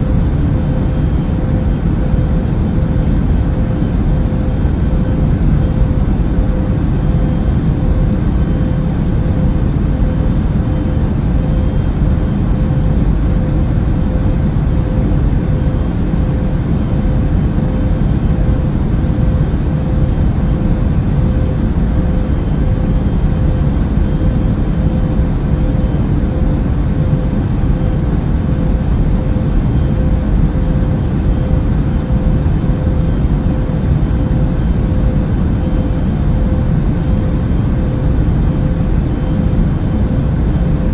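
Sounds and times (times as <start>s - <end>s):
aircraft cabin engine rumble: 0.0s - 40.9s
faint hum: 0.0s - 40.9s.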